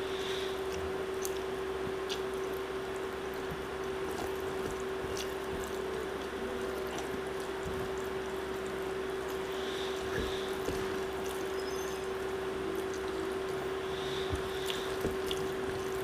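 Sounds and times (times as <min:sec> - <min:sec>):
background hum: 0:00.0 - 0:16.0
fingers squishing rice: 0:00.0 - 0:16.0.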